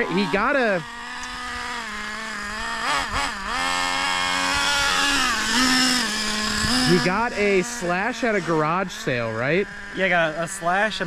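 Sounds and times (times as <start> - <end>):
model truck engine idling: 0.0 - 11.0.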